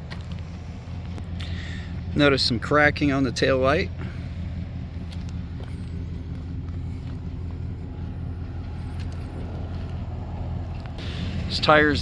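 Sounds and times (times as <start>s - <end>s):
van engine idling: 0.0s - 12.0s.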